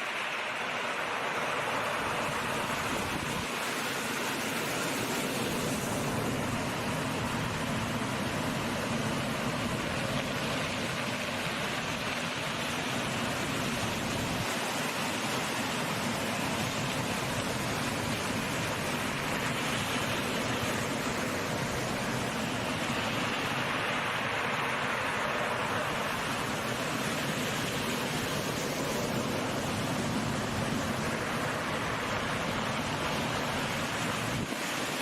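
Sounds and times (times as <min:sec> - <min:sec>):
waves rushing: 0:00.0 - 0:35.0
wind: 0:00.0 - 0:35.0.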